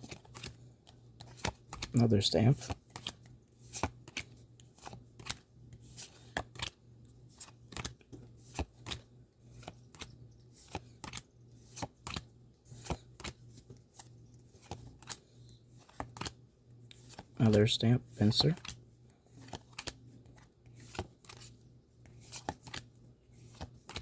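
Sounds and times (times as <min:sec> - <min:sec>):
trading cards clicking and snapping: 0:00.0 - 0:06.8, 0:07.4 - 0:15.2, 0:15.8 - 0:17.6, 0:18.2 - 0:24.0.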